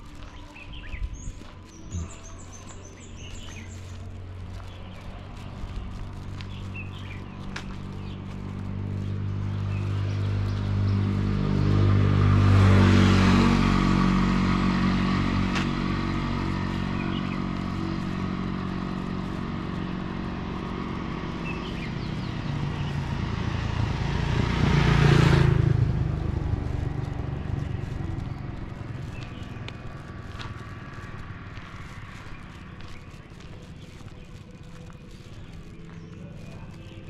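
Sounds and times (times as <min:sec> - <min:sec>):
vehicles passing on road: 0:00.0 - 0:37.0.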